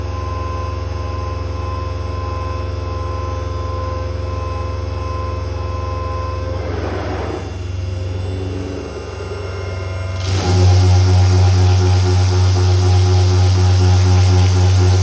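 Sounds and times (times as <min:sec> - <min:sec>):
cnc router running: 0:00.8 - 0:15.0.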